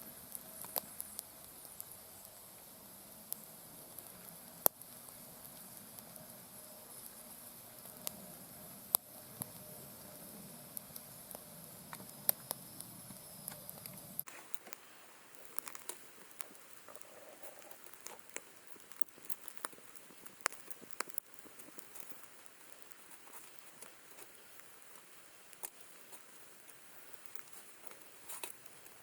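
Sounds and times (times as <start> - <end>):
meat crackling over wood fire: 0.0 - 29.0.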